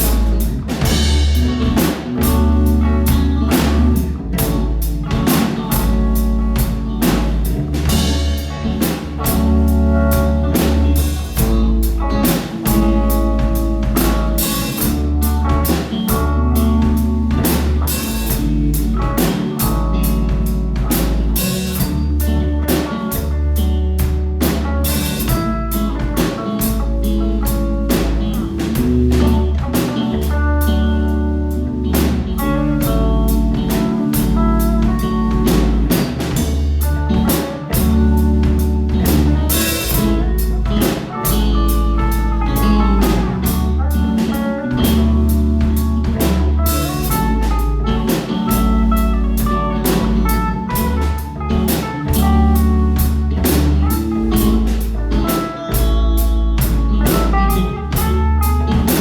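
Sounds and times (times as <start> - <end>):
drum kit beat: 0.0 - 59.0
guitar: 0.0 - 59.0
low bass notes: 0.0 - 59.0.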